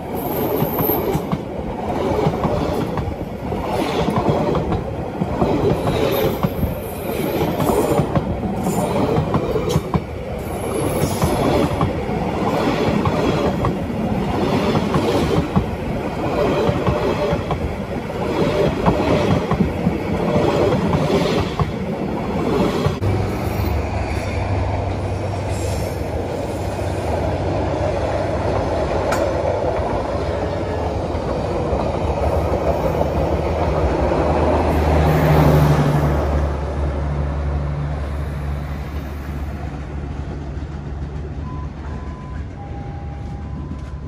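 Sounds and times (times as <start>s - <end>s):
train rumbling past: 0.0s - 44.0s.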